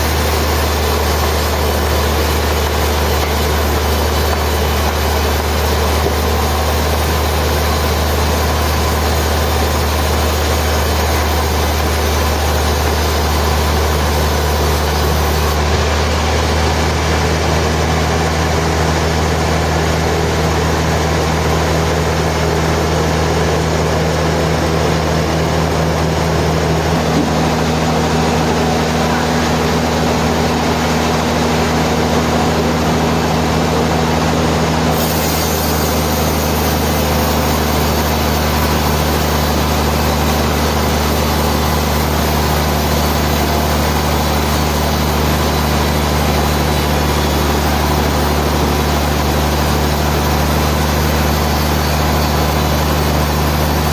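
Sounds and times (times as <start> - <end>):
sawmill machinery humming: 0.0 - 53.9.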